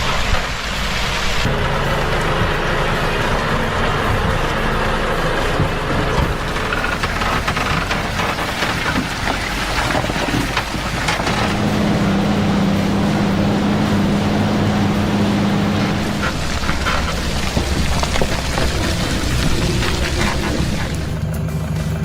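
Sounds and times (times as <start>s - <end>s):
heavy vehicle engine running: 0.0s - 22.0s
knocks and rattles: 1.5s - 12.2s, 14.4s - 22.0s.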